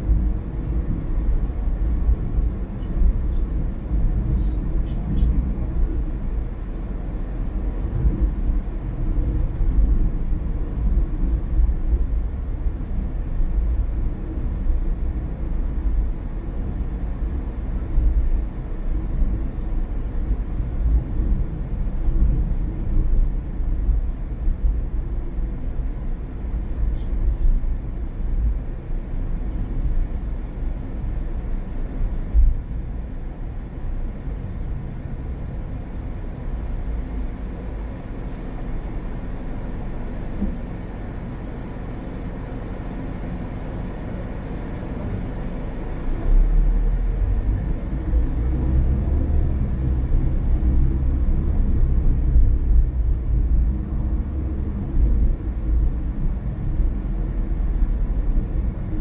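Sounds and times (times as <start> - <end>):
tyre and engine rumble: 0.0 - 59.0.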